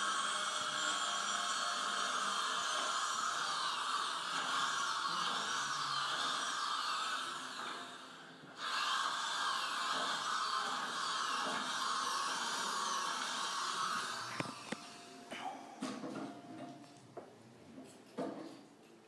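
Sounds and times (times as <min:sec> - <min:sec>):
harsh whirring electronic noise: 0:00.0 - 0:15.3.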